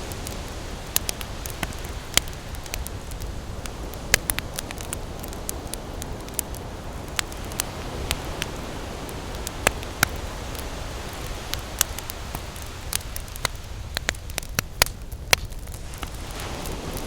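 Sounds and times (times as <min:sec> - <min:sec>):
ocean surf: 0:00.0 - 0:15.0, 0:15.6 - 0:17.0
campfire crackling and popping: 0:00.0 - 0:17.0.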